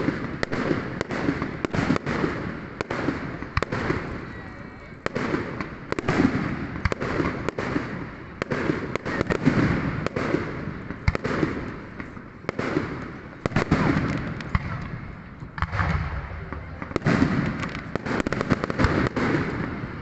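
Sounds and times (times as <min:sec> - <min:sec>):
fireworks booming: 0:00.0 - 0:20.0
fireworks sharp cracks: 0:00.0 - 0:20.0.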